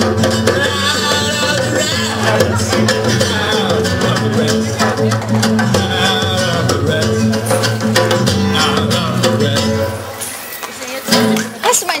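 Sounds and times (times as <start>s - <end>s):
djembe hand drum: 0.0s - 10.2s
held low notes: 0.0s - 10.2s
strummed acoustic guitar: 0.0s - 12.0s.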